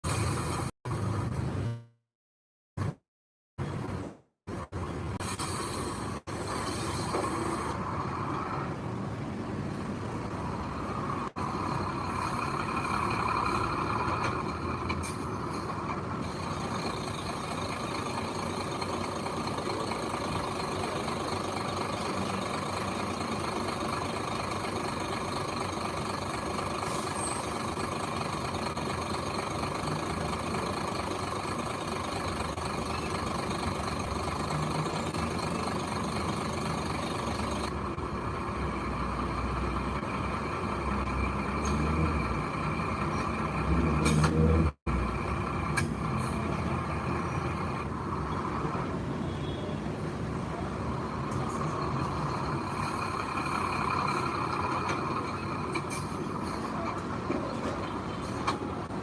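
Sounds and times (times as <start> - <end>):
heavy machinery diesel engine running: 4.5 - 59.0.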